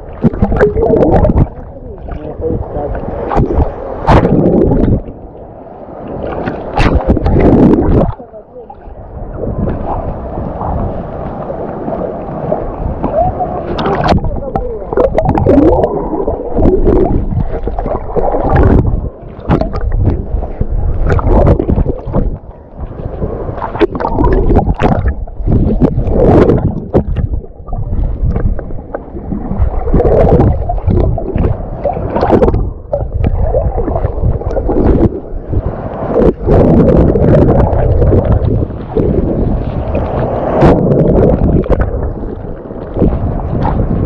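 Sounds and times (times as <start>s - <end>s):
sea water sloshing in waves: 0.0s - 44.0s
strong wind buffeting microphone: 0.0s - 44.0s.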